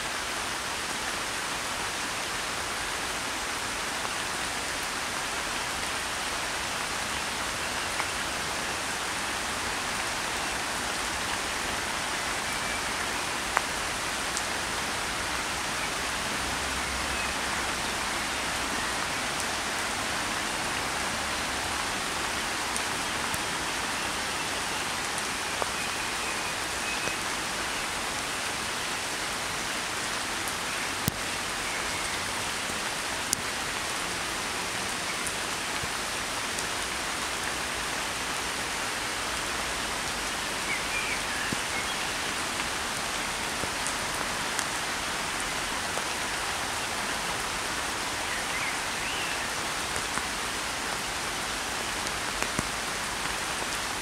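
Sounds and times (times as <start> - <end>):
rain falling on pond: 0.0 - 54.0.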